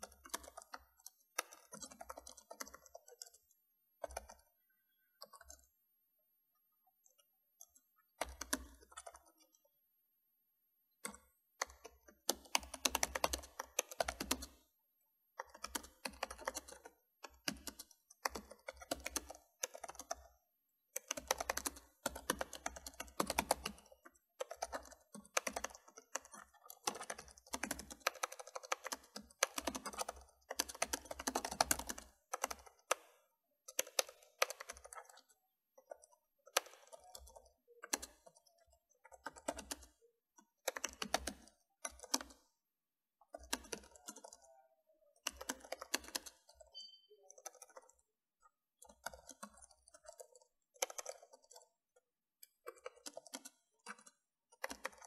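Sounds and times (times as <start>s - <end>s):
typing on a keyboard: 0.0s - 5.8s, 7.0s - 9.7s, 11.0s - 14.7s, 15.3s - 42.6s, 43.2s - 55.0s.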